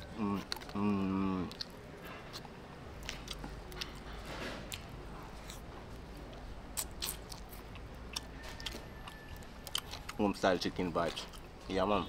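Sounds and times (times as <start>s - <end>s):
person chewing meat: 0.0s - 11.8s.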